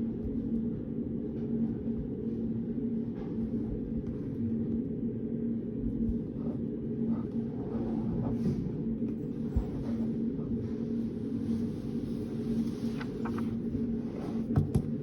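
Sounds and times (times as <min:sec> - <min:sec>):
low rumbling room hum: 0:00.0 - 0:15.0.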